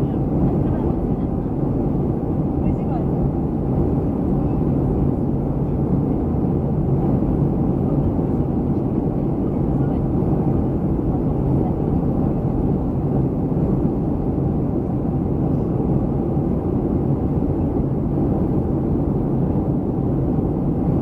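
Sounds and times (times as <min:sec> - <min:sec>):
jet engines rumbling: 0:00.0 - 0:21.0
rushing airflow: 0:00.0 - 0:21.0.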